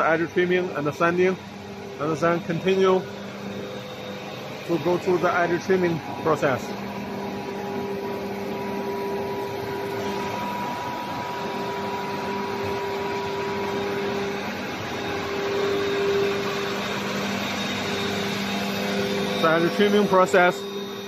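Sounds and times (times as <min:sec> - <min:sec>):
machinery humming and whirring: 0:00.0 - 0:21.0.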